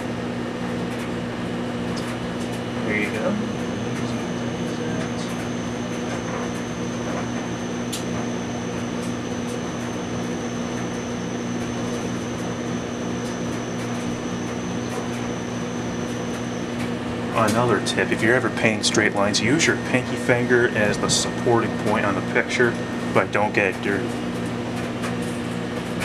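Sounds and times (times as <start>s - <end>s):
steady mechanical hum: 0.0s - 26.0s
high whine: 1.9s - 26.0s.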